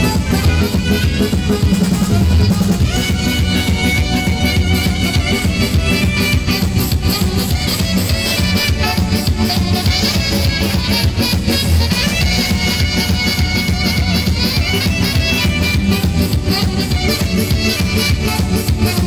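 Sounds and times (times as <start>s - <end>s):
arranger keyboard dance music: 0.0s - 19.0s
fast drum-kit beat: 0.0s - 19.0s
saxophone: 0.0s - 19.0s.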